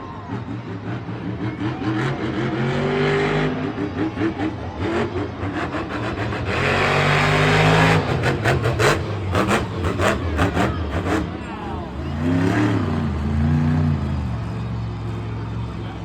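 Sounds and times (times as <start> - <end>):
truck engine revving: 0.2 - 16.0.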